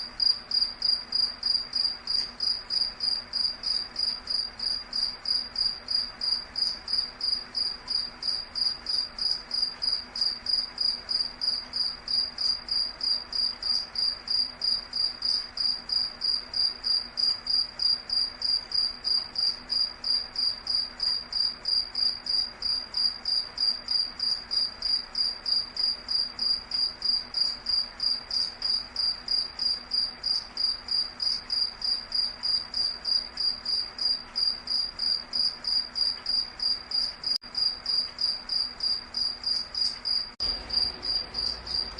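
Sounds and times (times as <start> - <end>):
insect chirping: 0.0 - 41.9.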